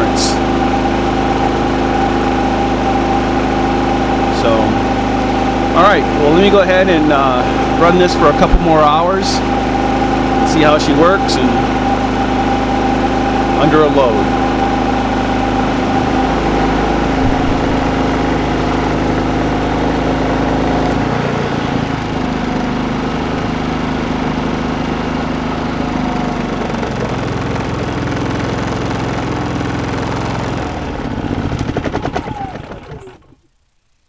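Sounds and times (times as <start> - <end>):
generator running: 0.0 - 34.0.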